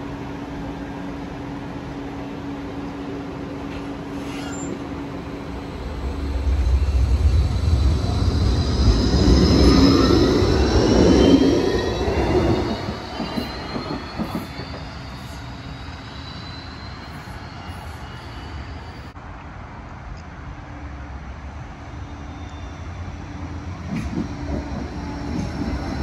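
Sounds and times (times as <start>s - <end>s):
tram rumbling and whining: 0.0s - 26.0s.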